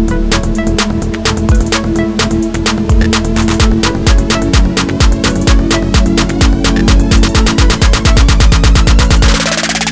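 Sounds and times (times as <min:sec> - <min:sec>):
electronic beat music: 0:00.0 - 0:09.9.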